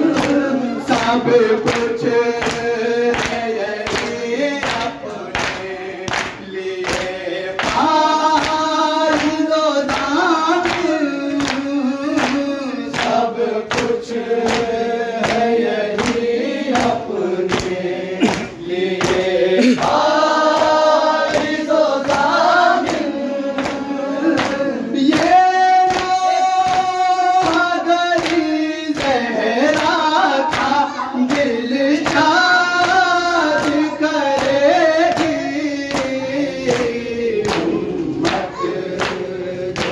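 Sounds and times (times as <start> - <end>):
men singing a lament: 0.0 - 39.9
chest-beating slaps: 0.1 - 39.9.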